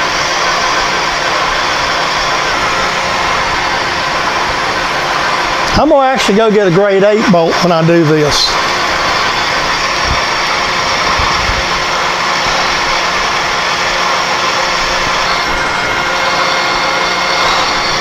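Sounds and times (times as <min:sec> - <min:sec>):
drill bit boring through steel: 0:00.0 - 0:18.0
milling machine running: 0:00.0 - 0:18.0.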